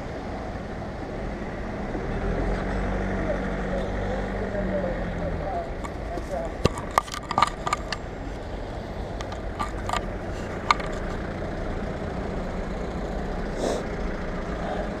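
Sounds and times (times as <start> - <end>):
car engines in traffic: 0.0 - 15.0.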